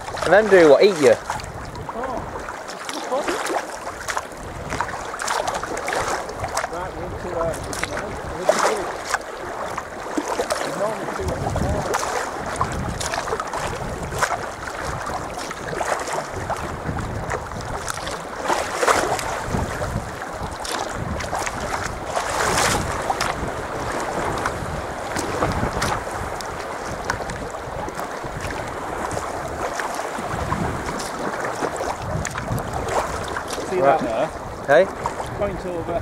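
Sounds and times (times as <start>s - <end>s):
water splashing around kayak: 0.0s - 36.0s
wind rumbling on microphone: 0.0s - 36.0s.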